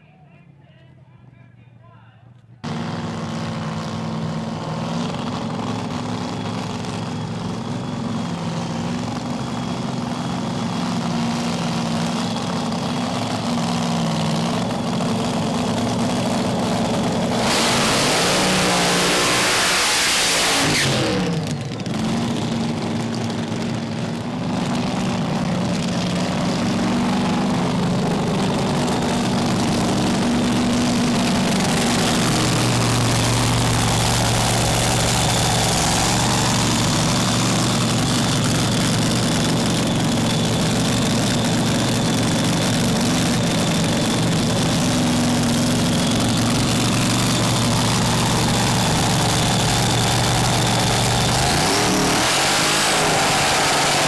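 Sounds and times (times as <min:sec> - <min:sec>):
dragster engine idling loudly: 0:02.4 - 0:54.0.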